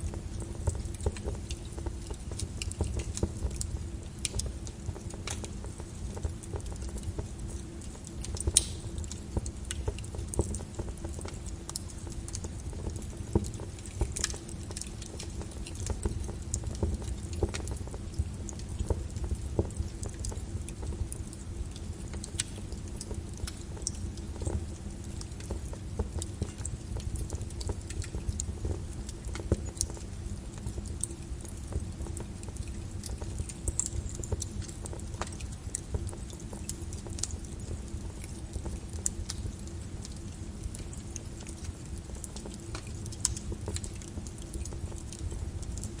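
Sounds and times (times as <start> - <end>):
lava crust crackling: 0.0 - 46.0
lava low rumble: 0.0 - 46.0.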